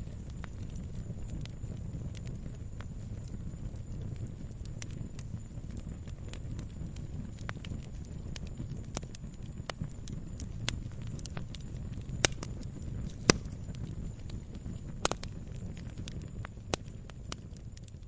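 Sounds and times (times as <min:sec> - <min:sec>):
fire rumbling: 0:00.0 - 0:18.0
logs crackling and popping: 0:00.0 - 0:18.0.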